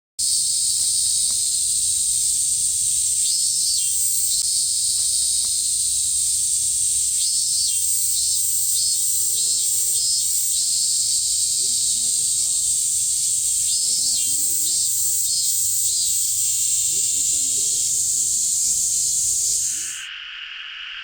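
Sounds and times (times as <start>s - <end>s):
cicadas chorus: 0.2s - 21.0s
pulsing insect call: 0.2s - 21.0s.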